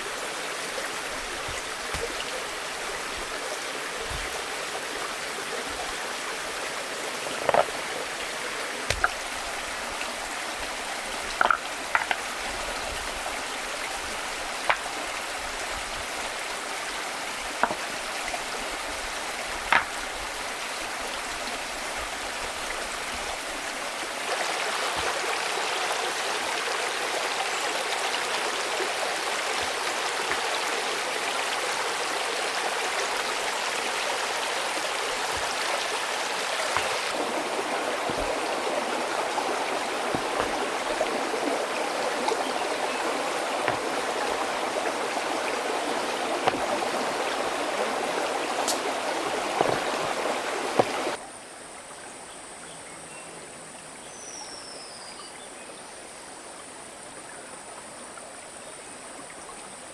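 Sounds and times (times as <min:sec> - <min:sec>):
stream water flowing: 0:00.0 - 0:52.1
quiet forest background: 0:00.0 - 0:59.9.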